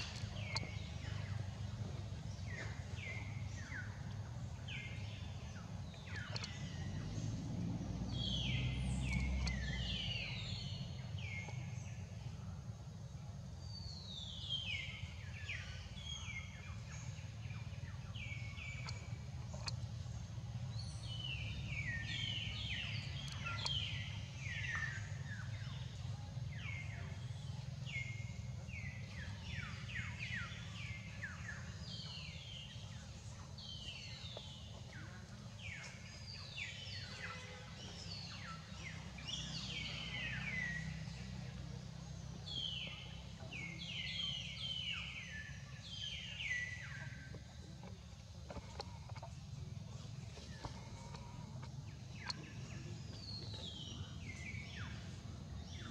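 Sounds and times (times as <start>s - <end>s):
steady low hum: 0.0s - 55.9s
wild birds singing: 0.0s - 55.9s.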